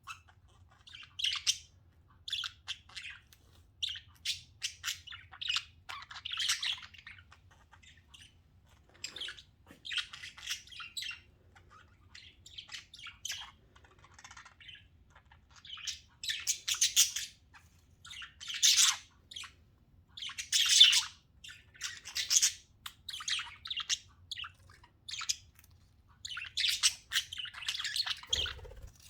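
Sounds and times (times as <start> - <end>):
budgerigars chirping: 0.0 - 29.0.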